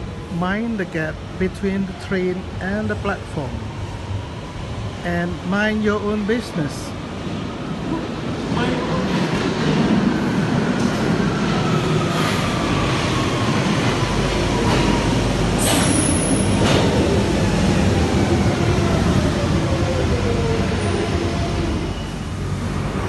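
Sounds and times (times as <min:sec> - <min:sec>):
wheels rumbling on rail: 0:00.0 - 0:23.0.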